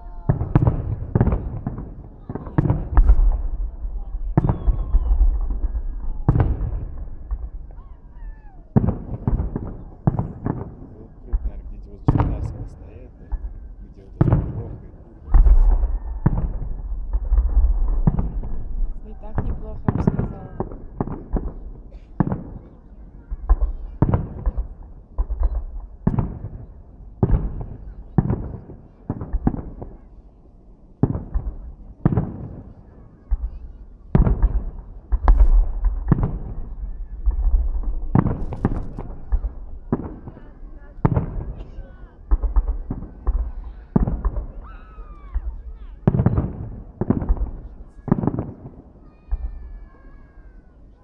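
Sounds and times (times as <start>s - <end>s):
low rumbling echo: 0.0s - 48.8s
fireworks bangs: 0.0s - 51.0s.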